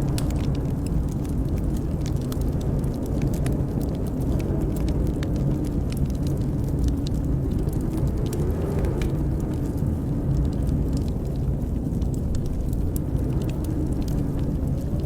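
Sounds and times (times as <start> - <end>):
wind rumbling and howling: 0.0 - 15.0
wood fire crackling and popping: 0.0 - 15.0.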